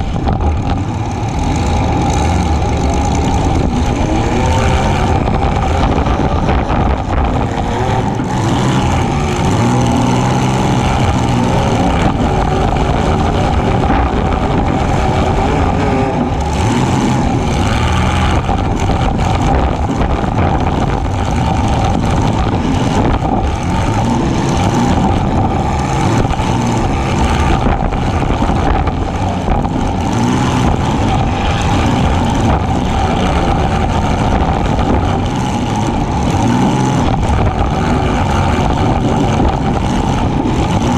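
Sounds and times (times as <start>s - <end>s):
car engine running hard: 0.0s - 40.9s.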